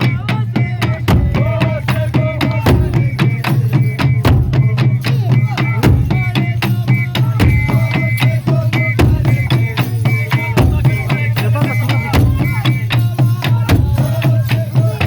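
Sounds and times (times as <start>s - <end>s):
music with percussion beat: 0.0s - 15.0s.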